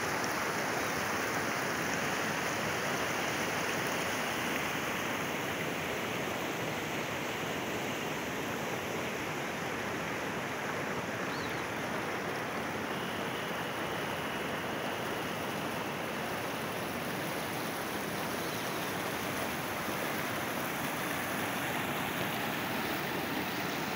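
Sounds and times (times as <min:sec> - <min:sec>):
river rushing over rocks: 0:00.0 - 0:23.9.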